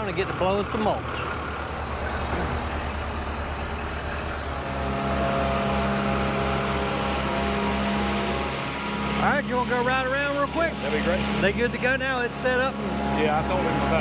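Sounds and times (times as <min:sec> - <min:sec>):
truck engine and blower running: 0:00.0 - 0:14.0
droning hum: 0:01.3 - 0:14.0.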